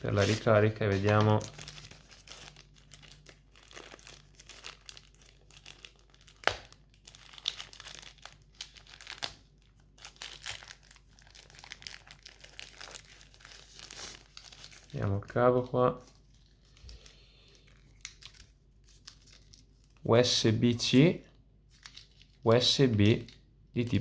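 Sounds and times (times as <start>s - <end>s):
packaging crinkling and rustling: 0.0s - 15.4s, 16.0s - 20.1s, 21.6s - 23.4s.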